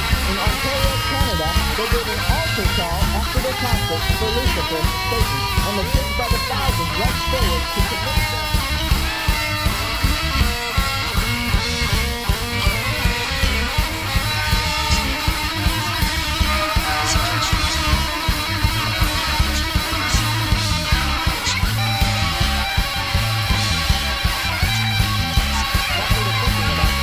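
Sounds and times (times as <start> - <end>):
noise rock band playing: 0.0 - 27.0.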